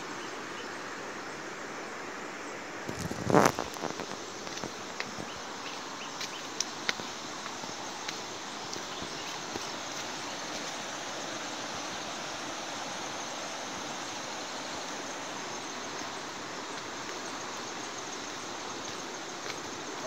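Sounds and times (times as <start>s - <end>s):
running water rushing: 2.7s - 20.0s.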